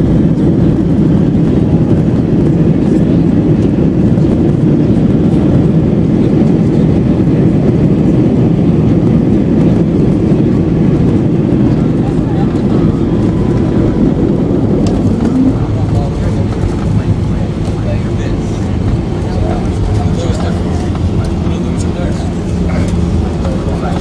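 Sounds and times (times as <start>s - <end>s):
airliner cabin engine and airflow rumble: 0.0s - 24.0s.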